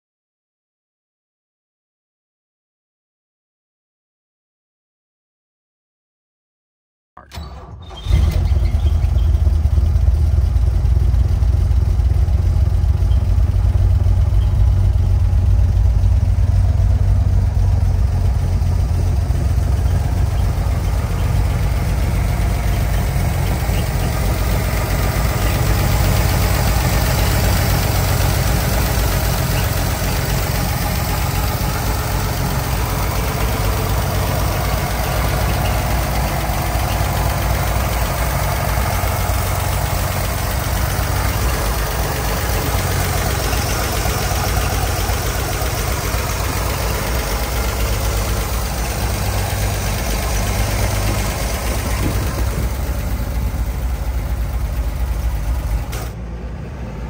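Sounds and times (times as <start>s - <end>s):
car engine idling: 7.3s - 57.0s.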